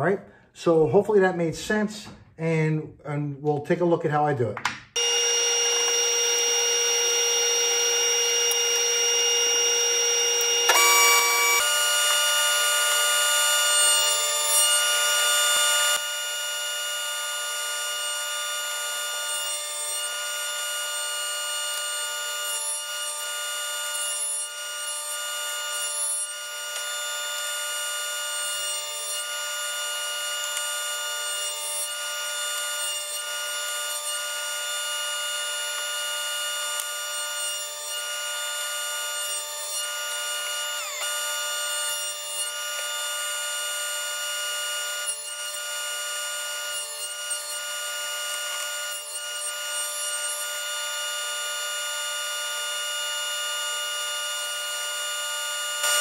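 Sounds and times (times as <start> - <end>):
table saw whining: 4.9 - 56.0.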